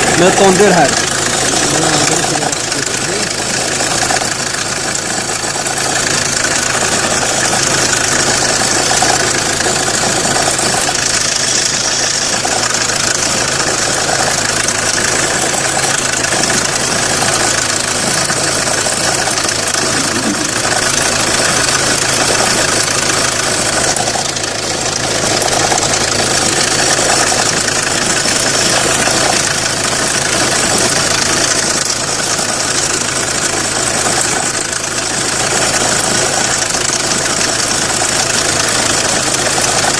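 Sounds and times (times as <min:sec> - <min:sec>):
diesel engine idling: 0:00.0 - 0:39.9
engine shaking rattle: 0:00.0 - 0:39.9.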